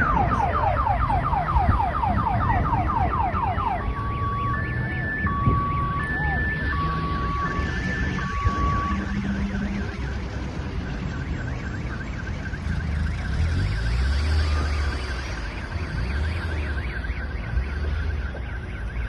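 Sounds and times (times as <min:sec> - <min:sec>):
car alarm warbling: 0:00.0 - 0:19.0.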